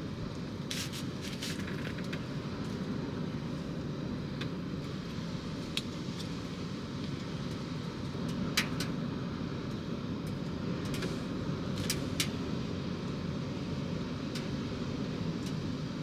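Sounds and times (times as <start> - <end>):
rain at the seashore: 0.0 - 16.0.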